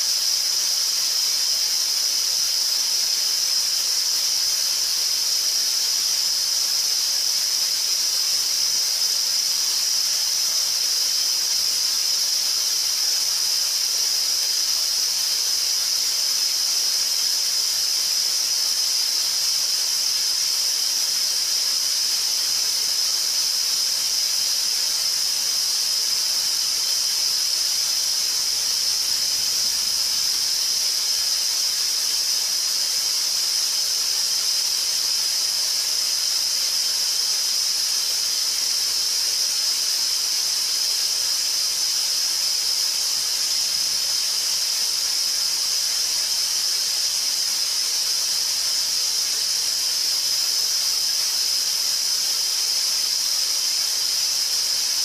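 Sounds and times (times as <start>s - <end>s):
high-pitched static hiss: 0.0s - 55.0s.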